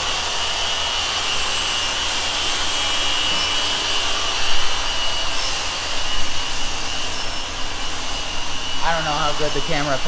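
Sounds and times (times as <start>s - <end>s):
loud hiss: 0.0s - 10.0s
rotary polishers whining: 0.0s - 10.0s.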